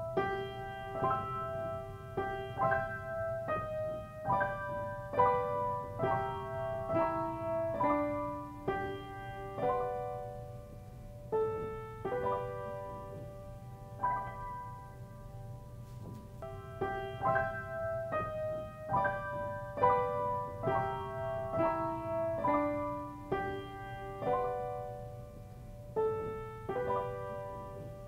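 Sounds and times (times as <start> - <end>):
slow solo piano melody: 0.0 - 28.0.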